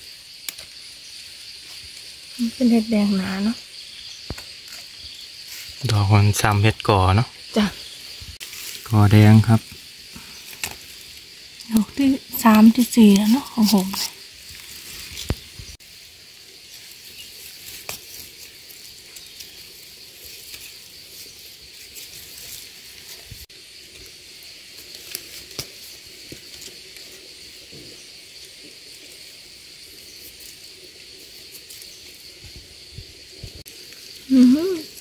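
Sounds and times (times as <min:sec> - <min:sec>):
faint hiss: 0:00.0 - 0:35.0
high-pitched insect drone: 0:00.0 - 0:35.0.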